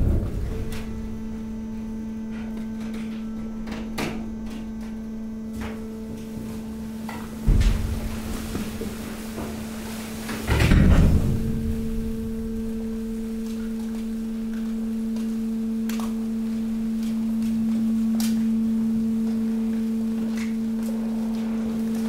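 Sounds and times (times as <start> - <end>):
hydraulic pump humming: 0.0 - 22.0.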